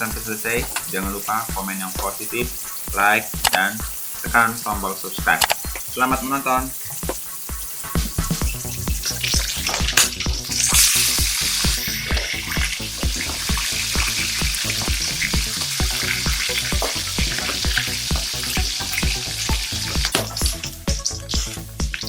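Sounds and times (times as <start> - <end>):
meat sizzling in hot oil: 0.0 - 22.0.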